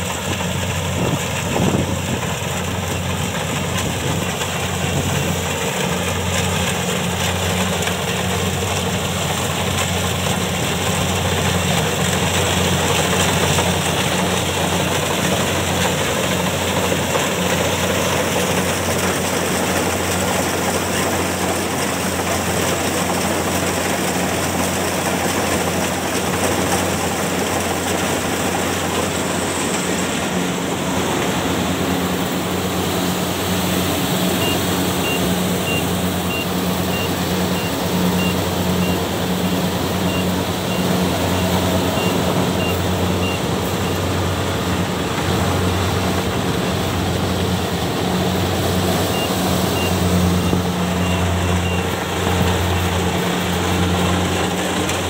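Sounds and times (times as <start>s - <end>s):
combine harvester engine hum: 0.0s - 55.0s.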